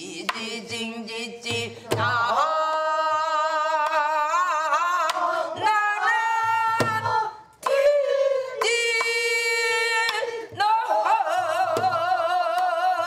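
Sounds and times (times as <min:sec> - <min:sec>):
person singing with vibrato: 0:00.0 - 0:13.0.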